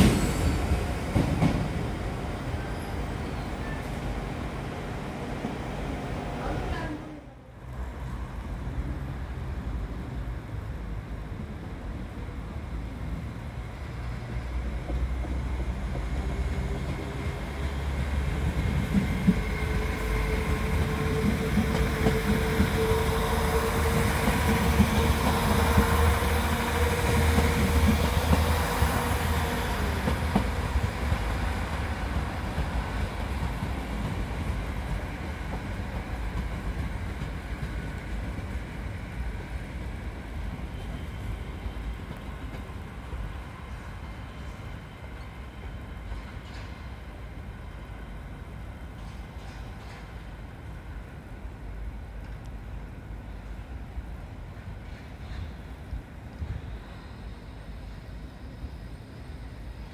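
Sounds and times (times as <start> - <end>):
quieter train passing: 0.0 - 59.9
train running rumble and whine: 0.0 - 59.9.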